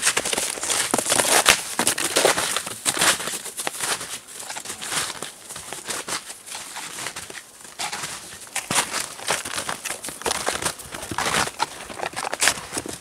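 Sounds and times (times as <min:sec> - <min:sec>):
boots crunching through snow: 0:00.0 - 0:13.0.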